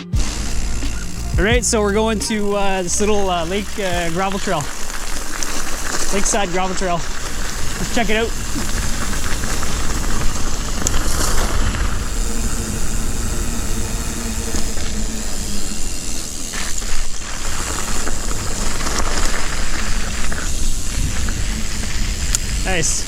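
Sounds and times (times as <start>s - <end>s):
bike tyres on gravel: 0.2s - 23.0s
wind: 0.2s - 23.0s.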